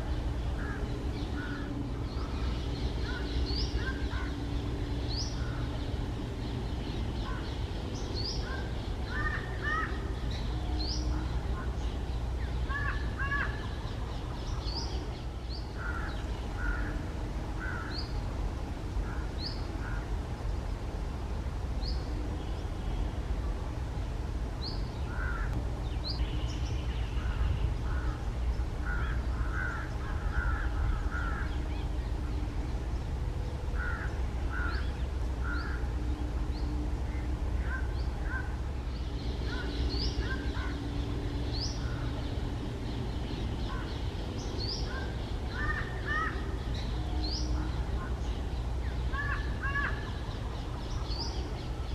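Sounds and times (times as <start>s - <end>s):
harsh bird calls: 0.0s - 18.3s, 24.6s - 51.9s
steady low rumble: 0.0s - 51.9s.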